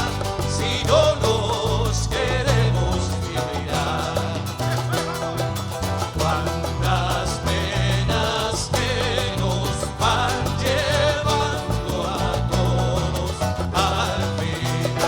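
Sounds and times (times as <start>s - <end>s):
latin folk band playing: 0.0s - 15.0s.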